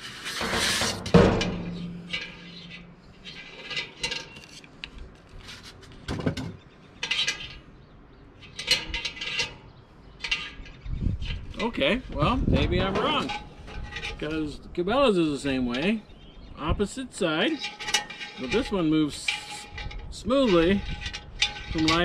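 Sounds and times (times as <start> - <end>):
wire handle scraping pot: 0.0 - 22.0.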